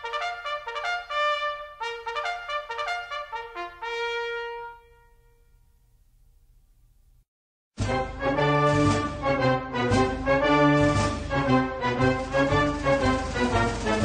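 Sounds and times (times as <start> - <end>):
trumpet fanfare: 0.0 - 5.5, 7.8 - 14.0.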